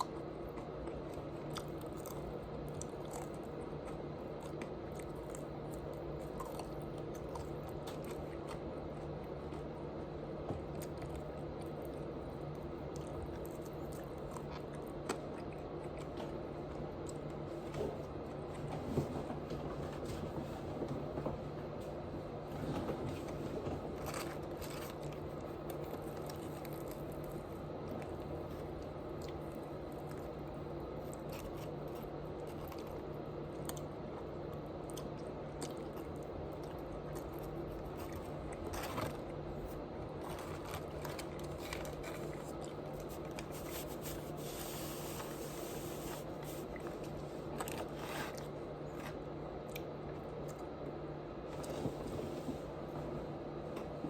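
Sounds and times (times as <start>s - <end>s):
chewing and crunching food: 0.0s - 20.4s, 21.1s - 52.2s
steady low hum: 0.0s - 54.0s.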